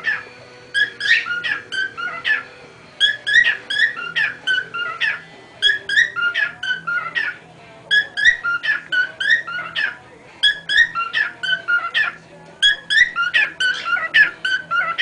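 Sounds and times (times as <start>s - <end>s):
cockatiel whistling: 0.0s - 15.0s.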